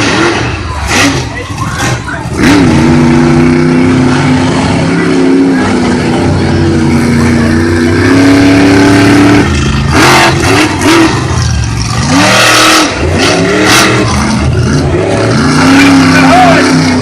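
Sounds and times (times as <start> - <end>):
monster truck engines revving: 0.0 - 17.0.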